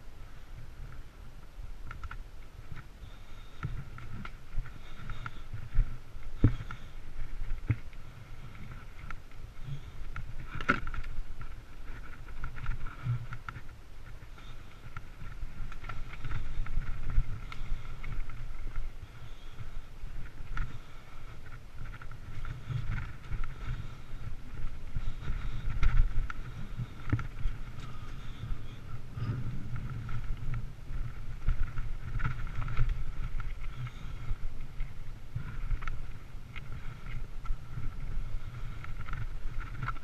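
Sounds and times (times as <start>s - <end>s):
mountain bike rumbling on dirt trail: 0.0s - 40.0s
bike rattles and knocks: 1.8s - 40.0s.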